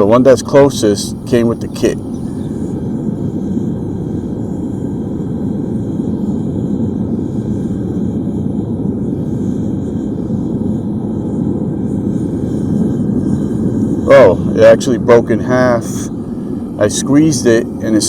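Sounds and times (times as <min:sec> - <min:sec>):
propane burner roaring: 0:00.0 - 0:18.0.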